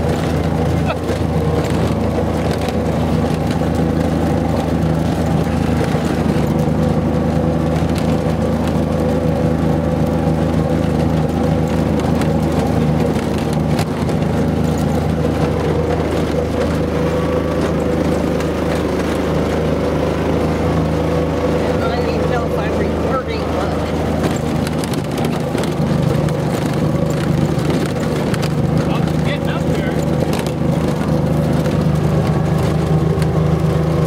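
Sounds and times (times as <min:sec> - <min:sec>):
off-road vehicle engine running: 0:00.0 - 0:34.0.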